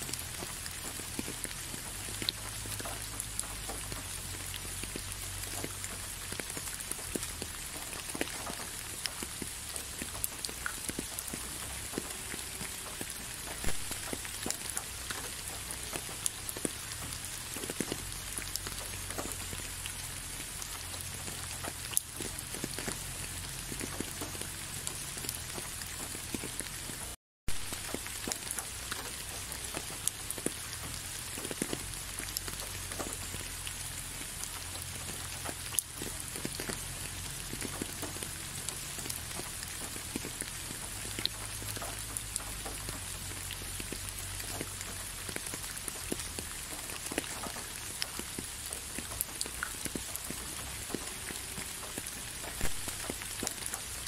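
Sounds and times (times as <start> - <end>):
raindrops ticking: 0.0 - 54.0
steady rain: 0.0 - 54.0.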